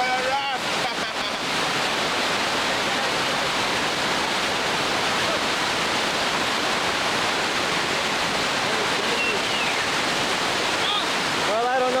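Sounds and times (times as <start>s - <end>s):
river rapids roaring: 0.0s - 12.0s.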